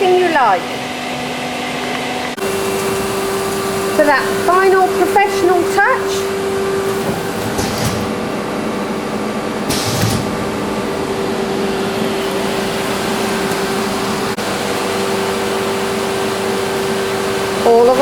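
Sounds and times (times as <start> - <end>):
machine whirring hum: 0.0 - 18.0.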